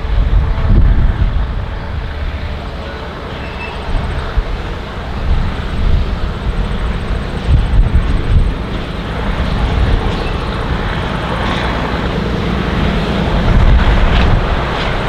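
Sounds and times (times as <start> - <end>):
railcar diesel engine running: 0.0 - 15.0.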